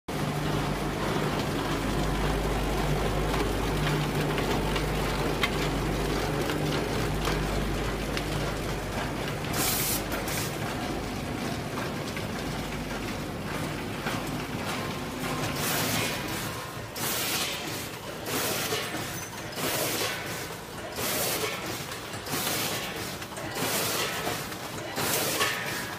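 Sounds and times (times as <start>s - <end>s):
packing machine humming: 0.1s - 25.9s.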